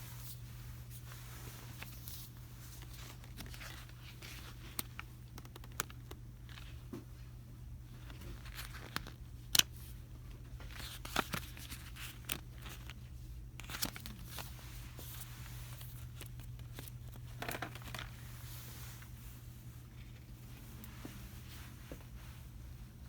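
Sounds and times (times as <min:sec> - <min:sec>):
low hum of store ambience: 0:00.0 - 0:23.0
soft rustles of handled items: 0:00.0 - 0:23.0.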